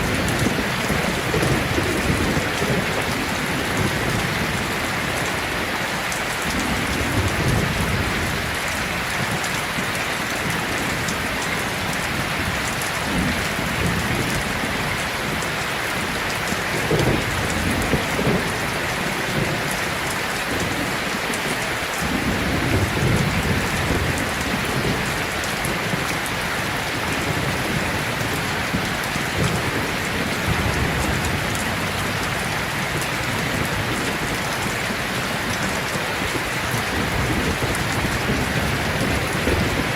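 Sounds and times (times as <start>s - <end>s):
heavy rain falling: 0.0s - 39.9s
thunder rumbling: 0.0s - 39.9s.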